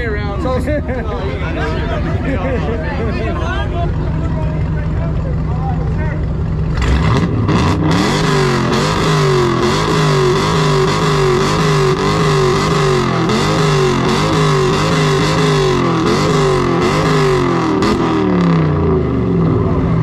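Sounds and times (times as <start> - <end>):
car engine on launch limiter: 3.4 - 20.0.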